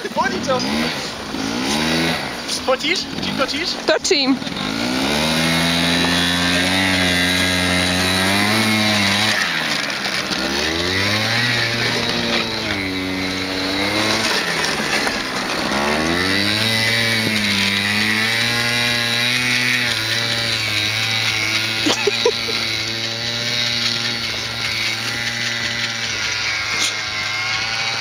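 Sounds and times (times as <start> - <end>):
two-stroke scooter engine revving: 0.0 - 28.0.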